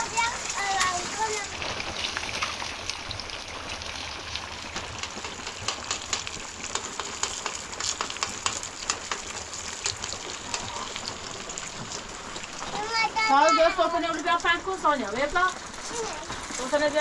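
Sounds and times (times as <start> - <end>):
rain falling: 0.0 - 17.0
raindrops ticking on a surface: 0.0 - 17.0.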